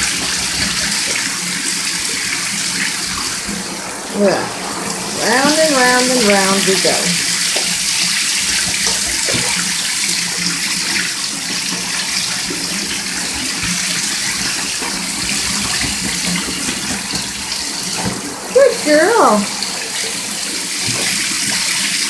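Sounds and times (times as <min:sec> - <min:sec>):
shower spray into bathtub: 0:00.0 - 0:22.0
water splashes: 0:00.0 - 0:22.0.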